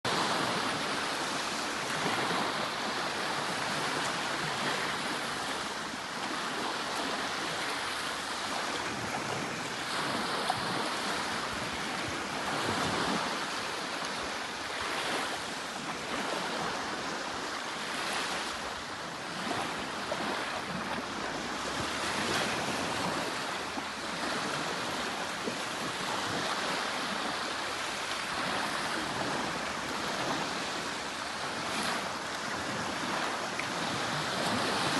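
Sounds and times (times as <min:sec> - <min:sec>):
sea surf washing on shore: 0:00.1 - 0:34.9.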